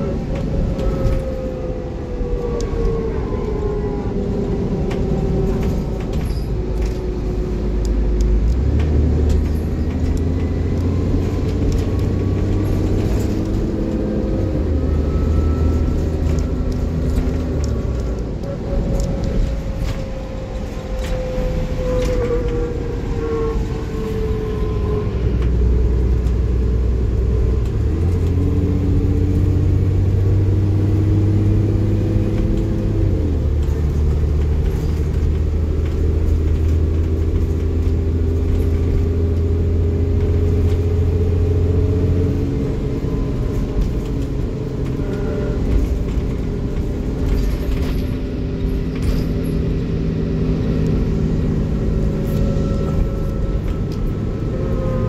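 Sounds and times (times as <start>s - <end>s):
diesel bus engine running: 0.0s - 55.0s.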